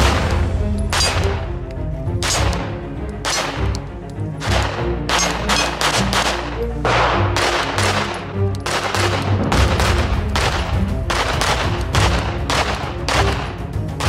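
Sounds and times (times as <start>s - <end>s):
pistol shots: 0.0s - 1.4s, 2.2s - 3.8s, 4.4s - 14.0s.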